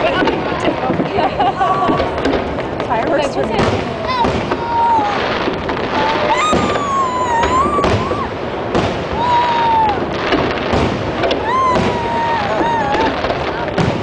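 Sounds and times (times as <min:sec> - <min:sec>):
fireworks booming and cracking: 0:00.0 - 0:14.0.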